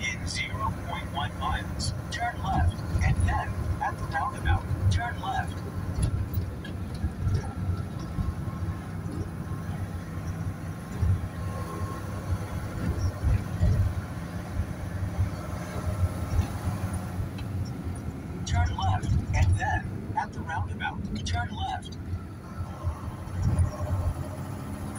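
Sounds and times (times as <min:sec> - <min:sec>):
engine and road rumble: 0:00.0 - 0:24.9.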